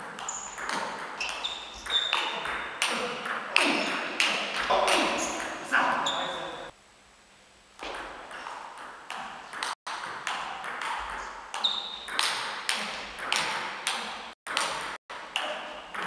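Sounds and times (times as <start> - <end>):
table tennis ball hits echoing: 0.0 - 6.2, 7.8 - 16.0.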